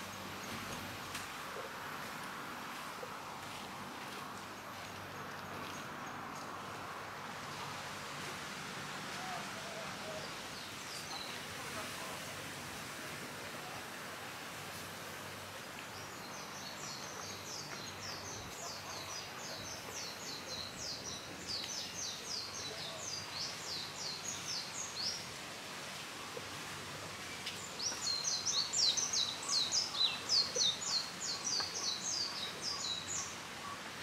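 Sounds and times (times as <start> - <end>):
outdoor background noise: 0.0 - 34.0.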